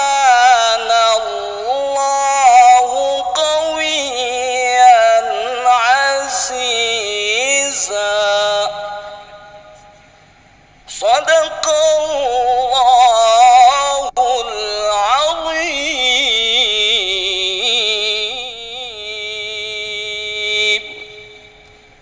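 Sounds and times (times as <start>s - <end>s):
man chanting recitation: 0.0s - 10.1s, 10.9s - 21.8s.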